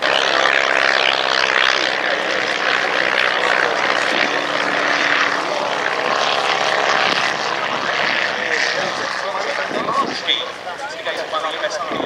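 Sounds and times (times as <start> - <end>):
biplane engine drone: 0.0 - 12.0.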